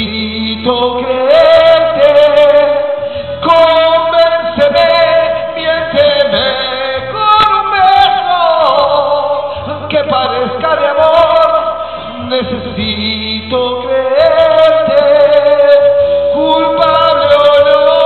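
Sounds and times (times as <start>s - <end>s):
man singing a ballad: 0.0s - 18.0s
recorded backing music: 0.0s - 18.0s.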